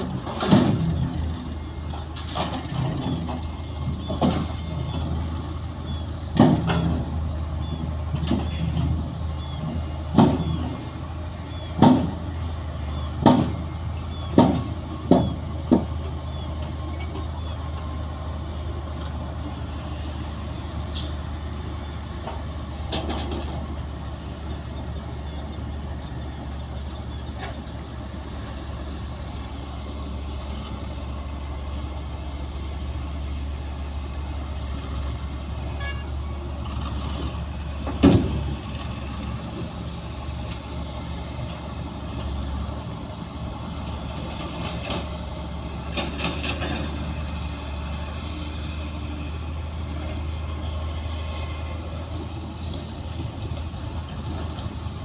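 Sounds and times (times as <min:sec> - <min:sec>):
heavy diesel machinery rumbling: 0:00.0 - 0:55.0.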